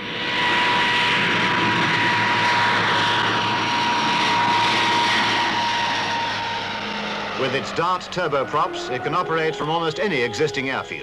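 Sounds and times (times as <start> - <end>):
turboprop aircraft engines passing: 0.0 - 11.0.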